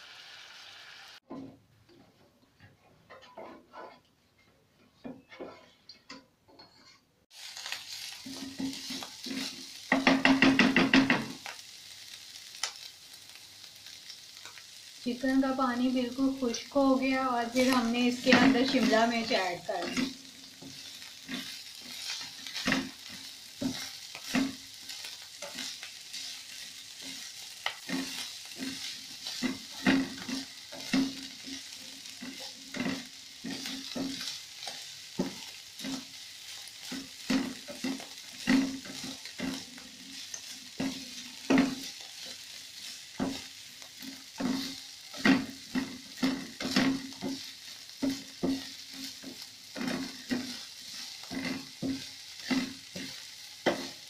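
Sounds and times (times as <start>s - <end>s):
chicken sizzling in a frying pan: 0.0s - 1.3s, 7.3s - 54.0s
spatula scraping and knocking pan: 2.8s - 4.2s, 4.8s - 11.5s, 16.2s - 54.0s.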